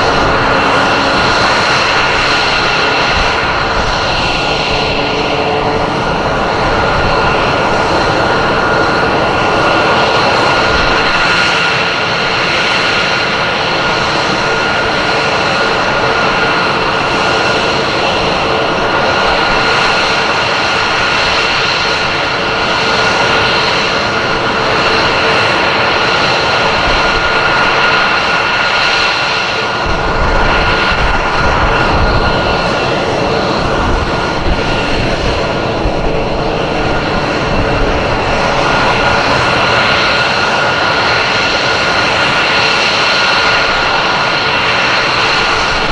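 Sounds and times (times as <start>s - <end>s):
jet fighter engines roaring: 0.0s - 45.9s.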